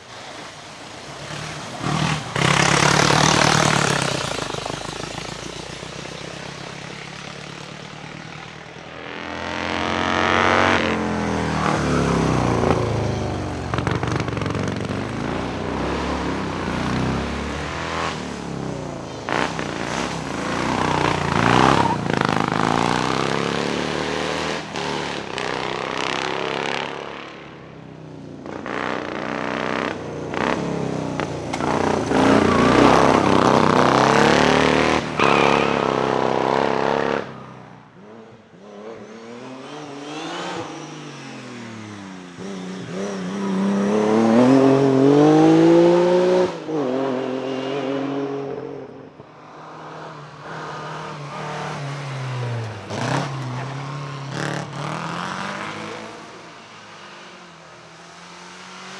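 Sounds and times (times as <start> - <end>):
racing car engines revving hard: 0.0 - 27.7, 28.4 - 58.9.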